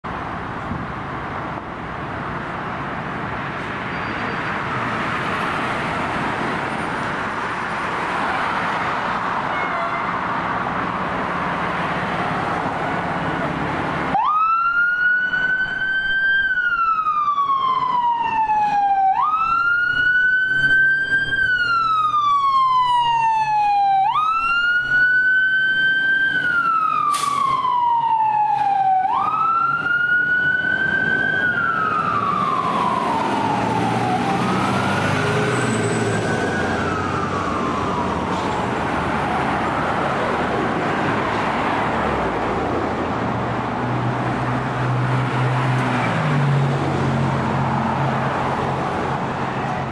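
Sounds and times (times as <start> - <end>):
engine and traffic noise: 0.0 - 49.9
fire engine siren wailing: 4.5 - 49.9.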